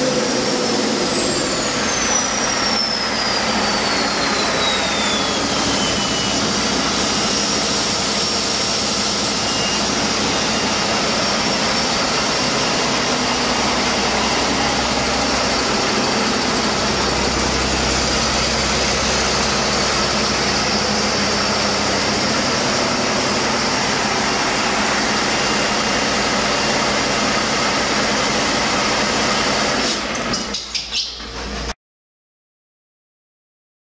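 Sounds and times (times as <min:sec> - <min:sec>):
high whine falling in pitch: 0:00.0 - 0:29.1
diesel engine running: 0:00.0 - 0:31.8.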